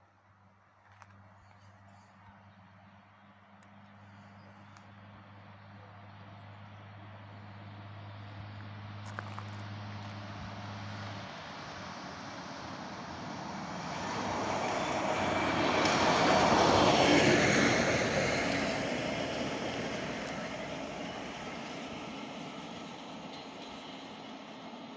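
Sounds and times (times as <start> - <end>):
rail vehicle passing: 0.5 - 24.9.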